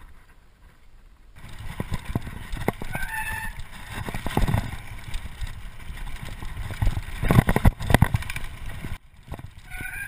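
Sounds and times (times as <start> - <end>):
mountain bike clattering on trail: 0.0 - 10.0
wind buffeting microphone: 0.0 - 10.0.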